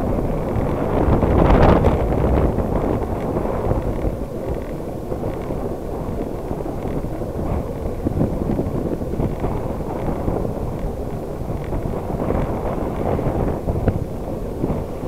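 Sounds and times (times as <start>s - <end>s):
wind rumbling over microphone: 0.0s - 15.0s.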